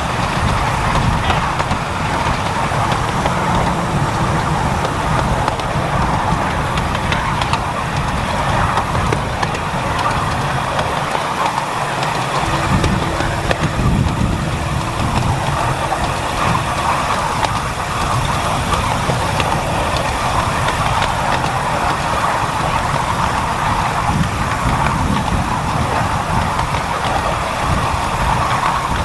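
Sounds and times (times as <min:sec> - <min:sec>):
faint track clicks: 0:00.0 - 0:29.0
miniature train rumbling on track: 0:00.0 - 0:29.0.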